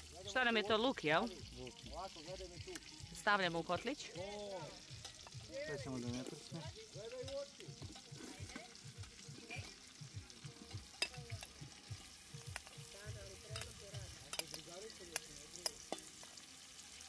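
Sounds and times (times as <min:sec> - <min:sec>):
food sizzling in lard: 0:00.0 - 0:17.0.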